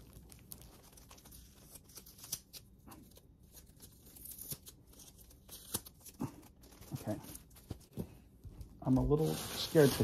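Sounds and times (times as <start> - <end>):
tape crackling: 0.0 - 8.0
paper rustling: 0.0 - 8.1, 8.8 - 10.0.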